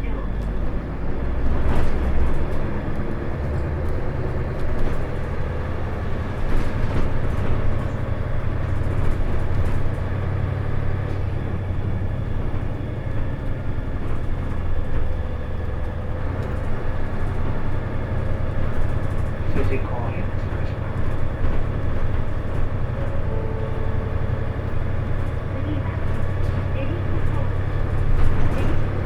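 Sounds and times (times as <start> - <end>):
bus diesel engine drone: 0.0 - 29.0
road noise: 0.0 - 29.0.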